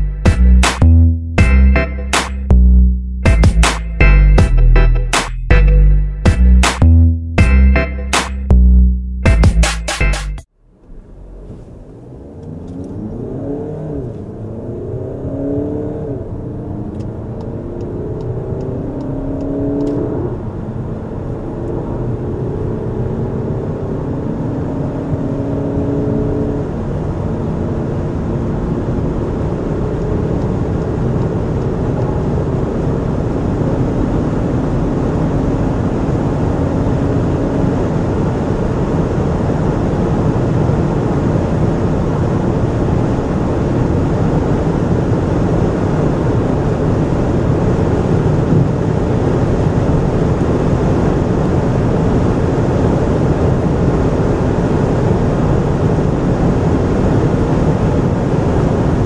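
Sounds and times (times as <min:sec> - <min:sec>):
diesel engine accelerating: 0:00.0 - 0:59.0
wind and road noise: 0:10.4 - 0:59.0.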